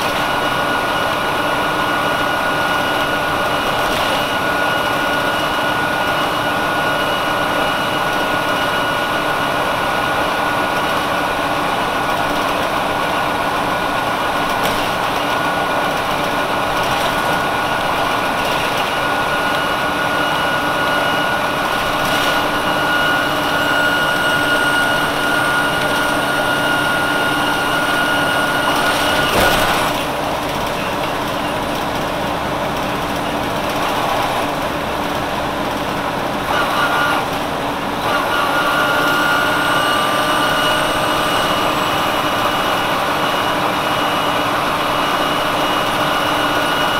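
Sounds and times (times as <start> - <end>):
bus diesel engine running: 0.0 - 46.9
high-pitched whine: 0.0 - 46.9.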